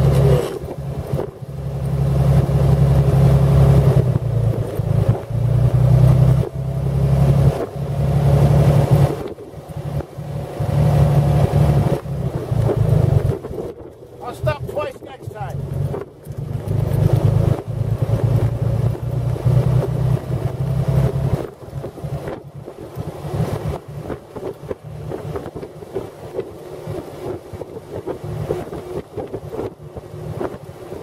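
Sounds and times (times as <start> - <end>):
car engine droning: 0.0 - 31.0
wind buffeting microphone: 0.0 - 31.0.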